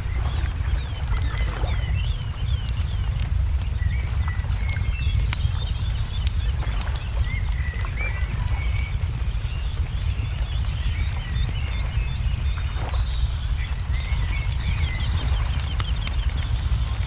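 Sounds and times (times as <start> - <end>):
low rumble: 0.0 - 17.0
songbirds chirping: 0.0 - 17.0
wood fire crackling and popping: 0.0 - 17.0.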